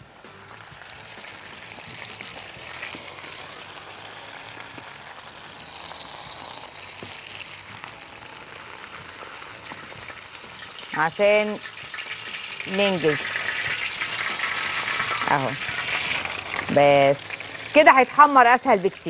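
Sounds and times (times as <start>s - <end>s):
food sizzling: 0.0s - 19.0s.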